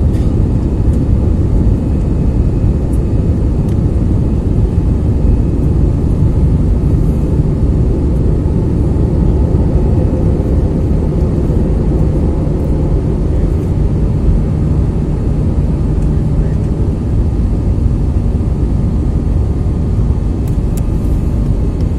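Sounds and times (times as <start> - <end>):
airliner engine rumble: 0.0 - 21.9.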